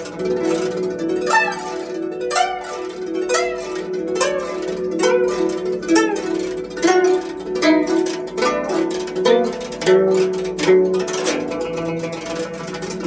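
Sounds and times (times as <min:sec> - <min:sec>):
guzheng plucked notes: 0:00.0 - 0:13.0.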